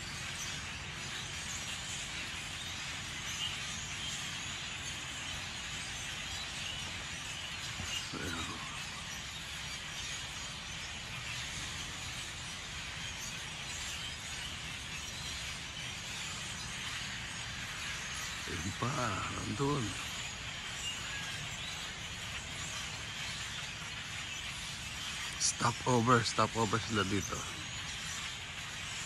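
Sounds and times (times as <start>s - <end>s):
flock of birds chattering: 0.0s - 29.0s.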